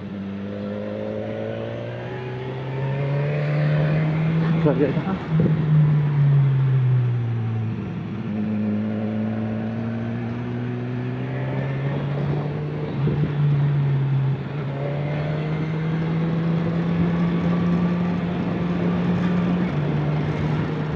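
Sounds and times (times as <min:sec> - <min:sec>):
motor vehicle engine running: 0:04.0 - 0:20.9.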